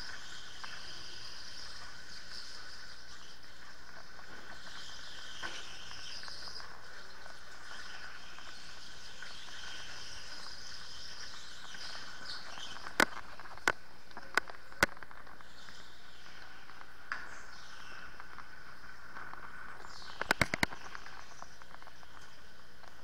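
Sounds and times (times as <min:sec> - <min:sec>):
electric go-kart whining: 0:00.0 - 0:23.0.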